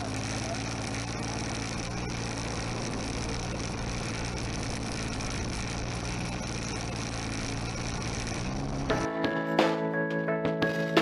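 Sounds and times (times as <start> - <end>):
model aircraft engine droning: 0.0 - 9.1.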